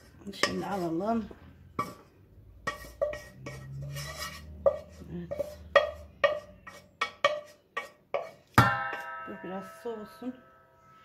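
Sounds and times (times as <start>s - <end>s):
spatula scraping frying pan: 0.0s - 9.2s.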